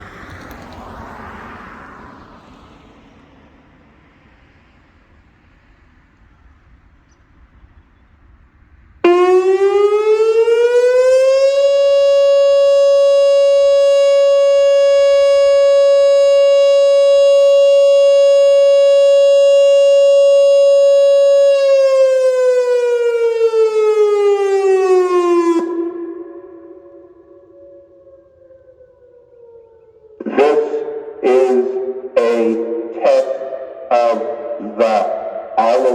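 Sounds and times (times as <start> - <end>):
outdoor warning siren: 0.0 - 35.9.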